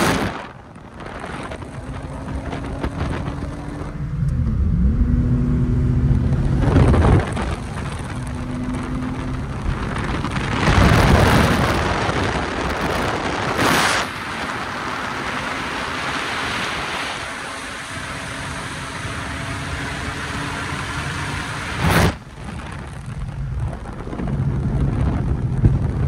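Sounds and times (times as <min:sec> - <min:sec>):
wind noise: 0:00.0 - 0:26.0
car engine from inside cabin: 0:00.7 - 0:26.0.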